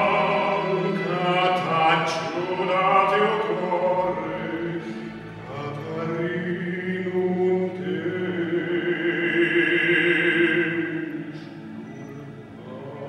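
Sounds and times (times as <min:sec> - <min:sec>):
male operatic baritone singing: 0:00.0 - 0:11.8, 0:12.5 - 0:13.0
low musical accompaniment: 0:00.0 - 0:13.0.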